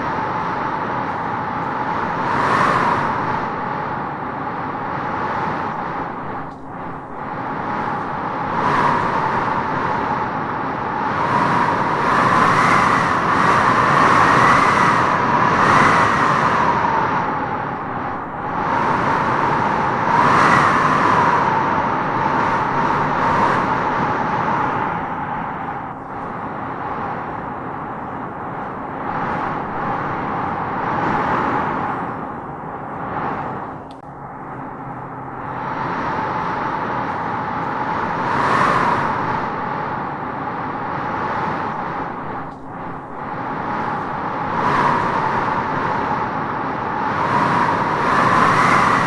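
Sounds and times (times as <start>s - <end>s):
strong gusty wind howling: 0.0s - 49.0s.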